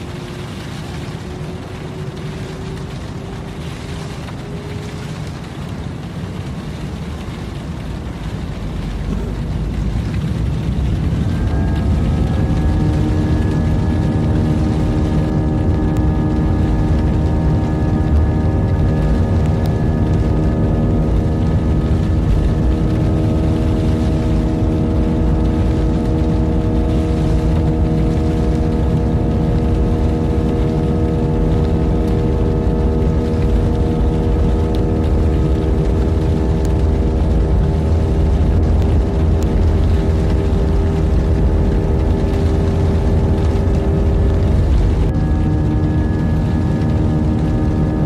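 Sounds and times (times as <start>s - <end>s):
airliner engines rumbling: 0.0s - 48.0s
steady engine whine: 0.0s - 48.0s.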